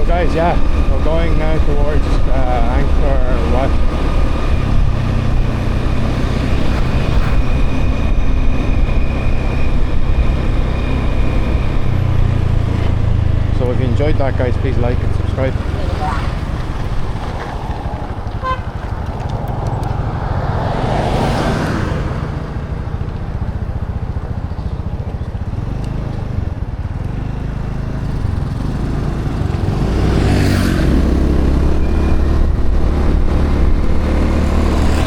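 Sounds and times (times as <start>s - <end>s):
motorbike engine running: 0.0s - 35.0s
road rumble: 0.0s - 35.0s
wind: 0.0s - 35.0s.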